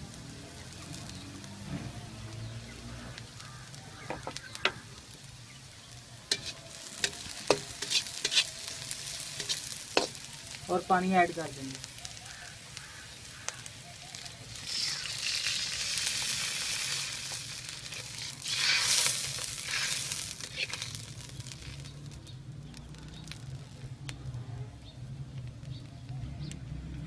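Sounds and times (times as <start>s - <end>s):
water hissing in hot wok: 0.0s - 22.1s.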